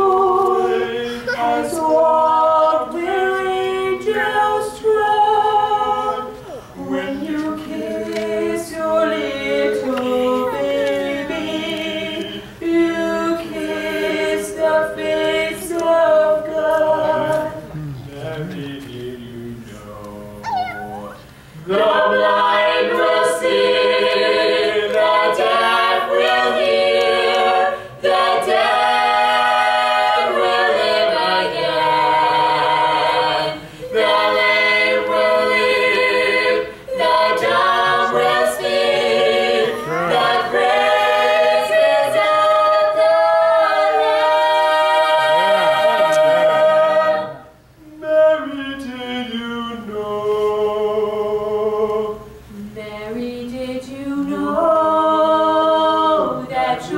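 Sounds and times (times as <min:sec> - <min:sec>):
a cappella harmony singing: 0:00.0 - 0:20.4, 0:21.4 - 0:56.9.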